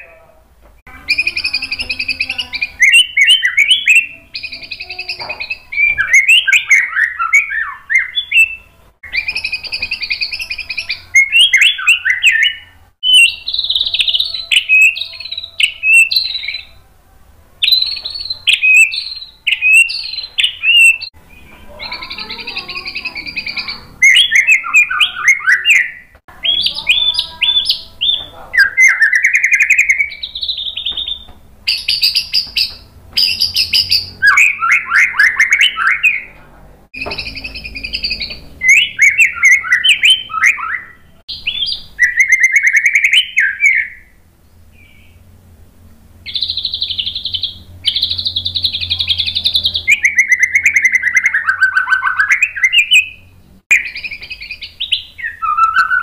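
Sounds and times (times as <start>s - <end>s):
bird singing: 0.0s - 17.0s, 17.6s - 45.4s, 46.2s - 56.0s.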